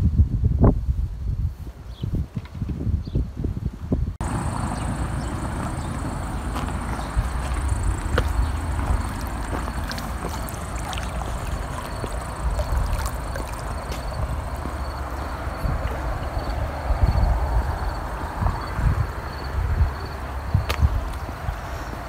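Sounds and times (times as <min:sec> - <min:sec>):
wind rumbling on microphone: 0:00.0 - 0:22.0
outdoor noise rush: 0:03.6 - 0:22.0.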